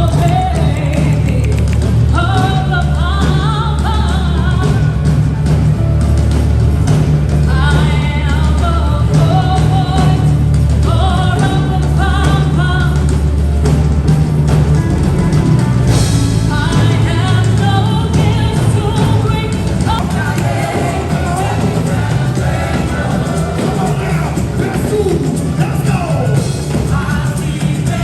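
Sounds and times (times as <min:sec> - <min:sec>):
pop song with vocals: 0:00.0 - 0:05.3, 0:07.5 - 0:13.2, 0:16.5 - 0:28.0.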